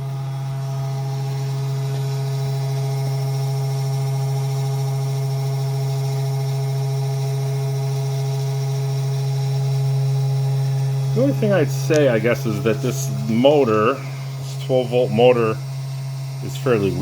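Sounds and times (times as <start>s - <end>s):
spindle motor humming: 0.0s - 17.0s.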